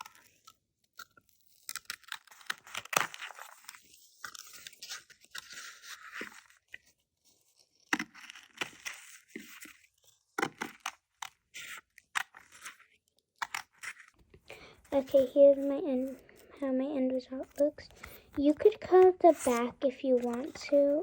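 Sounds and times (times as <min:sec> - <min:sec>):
scissors cutting taped paper: 0:00.0 - 0:06.6, 0:07.8 - 0:09.8, 0:10.4 - 0:14.1, 0:15.0 - 0:16.5, 0:17.4 - 0:21.0.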